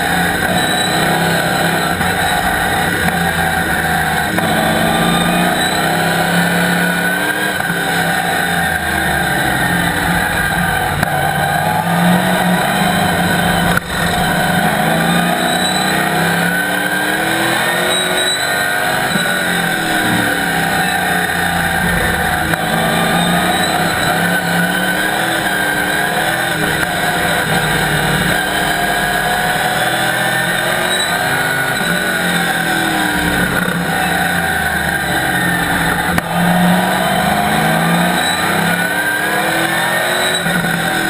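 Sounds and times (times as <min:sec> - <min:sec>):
race car engine revving: 0:00.0 - 0:41.0.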